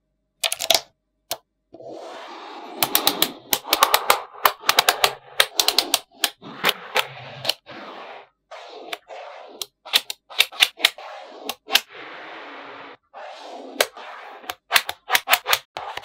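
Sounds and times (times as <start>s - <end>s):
hiss of balls being moved: 1.8s - 14.7s.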